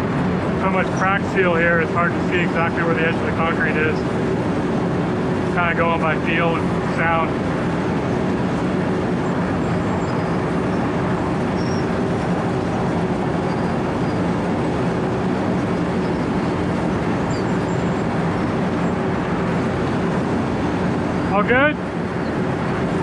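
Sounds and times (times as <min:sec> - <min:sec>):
diesel engine drone: 0:00.0 - 0:23.0.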